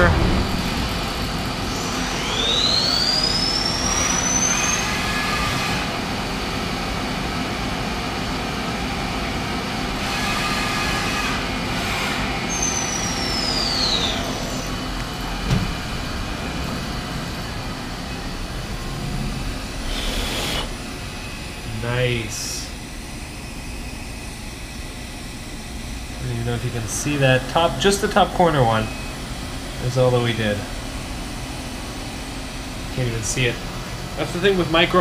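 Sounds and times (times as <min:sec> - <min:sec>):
mill spindle whine: 0:00.0 - 0:35.0.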